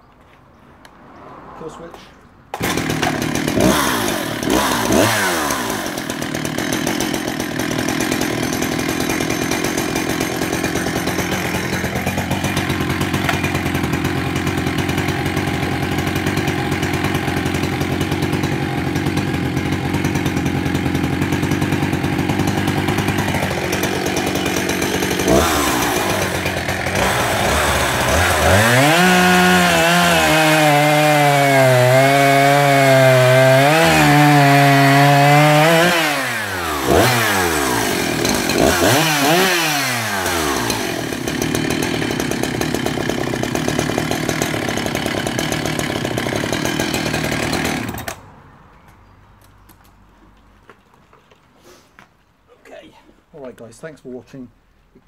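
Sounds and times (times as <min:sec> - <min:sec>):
chainsaw cutting log: 0:02.5 - 0:48.2
chainsaw revving and idling: 0:02.5 - 0:48.2.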